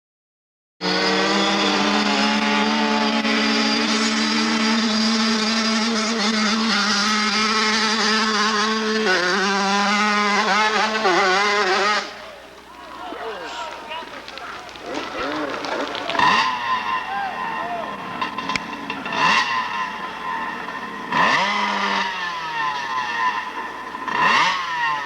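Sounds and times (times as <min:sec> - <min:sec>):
motorcycle engine at high revs: 0:00.8 - 0:12.4, 0:14.6 - 0:25.0.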